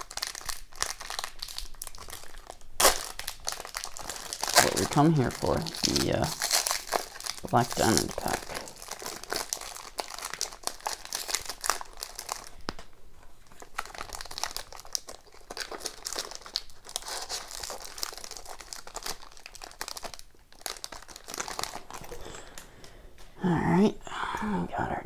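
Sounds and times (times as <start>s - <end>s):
plastic wrapper crinkling and tearing: 0.0s - 22.7s.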